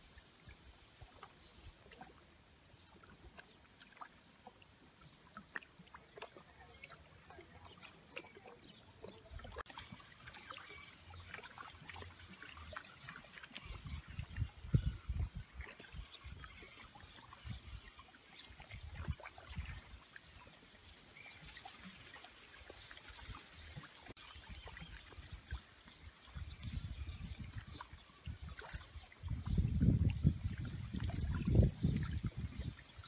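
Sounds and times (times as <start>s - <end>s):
faint splashes: 0.0s - 33.0s.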